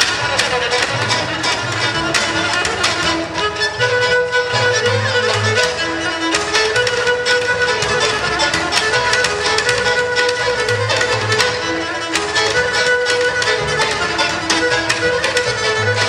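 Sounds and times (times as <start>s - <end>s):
bowed string melody: 0.0s - 16.0s
double bass line: 0.0s - 16.0s
plucked strumming: 0.0s - 16.0s.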